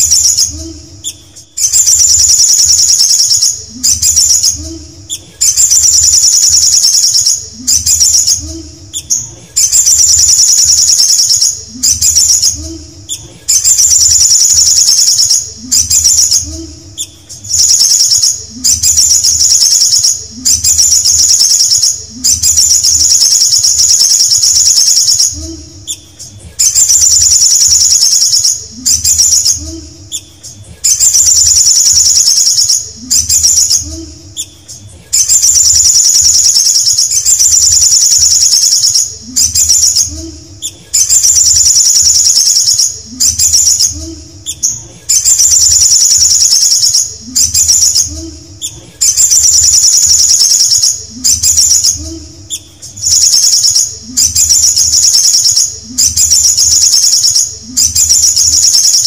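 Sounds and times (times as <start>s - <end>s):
bird high rapid trill: 1.6s - 4.6s, 5.4s - 8.4s, 9.1s - 12.6s, 13.6s - 16.5s, 17.5s - 25.4s, 26.6s - 29.6s, 30.9s - 33.9s, 35.2s - 40.1s, 41.0s - 48.1s, 49.0s - 52.0s, 53.0s - 59.0s.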